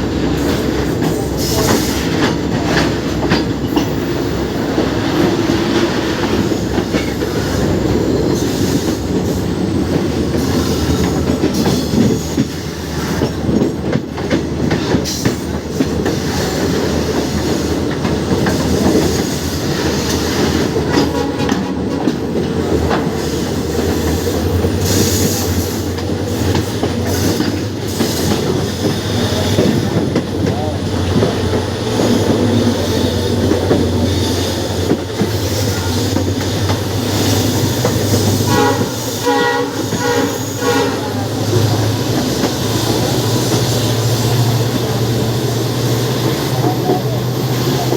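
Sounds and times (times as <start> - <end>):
train rumbling: 0.0 - 47.9.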